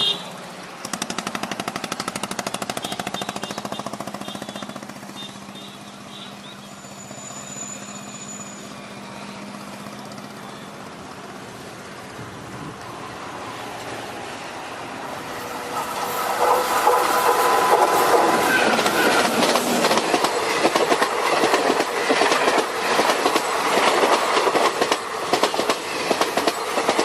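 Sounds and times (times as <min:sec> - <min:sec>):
train rattling: 0:00.0 - 0:27.0
train rumble with low hum: 0:00.0 - 0:27.0.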